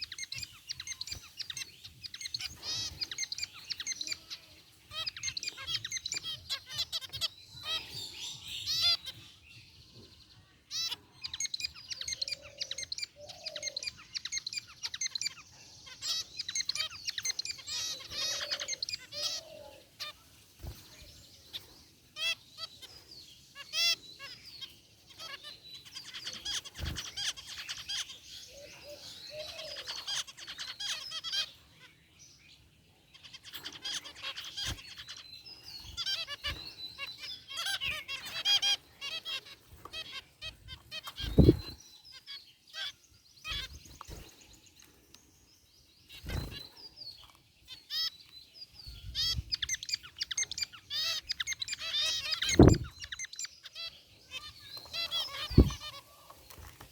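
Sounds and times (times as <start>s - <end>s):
finches chirping: 0.0s - 56.9s.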